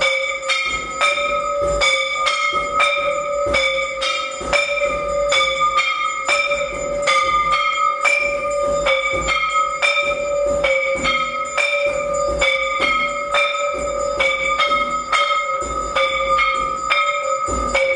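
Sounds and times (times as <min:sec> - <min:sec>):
temple bell ringing: 0:00.0 - 0:17.9.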